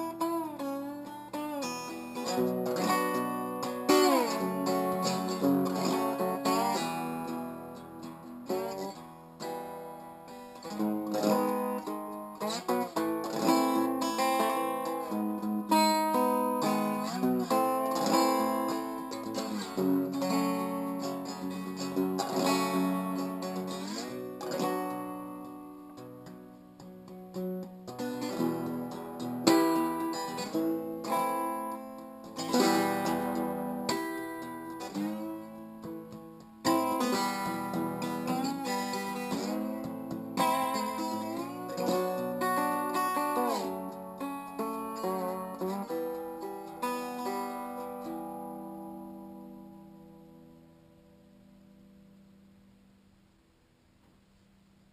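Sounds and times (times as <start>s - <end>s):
slide guitar playing: 0.0s - 51.6s.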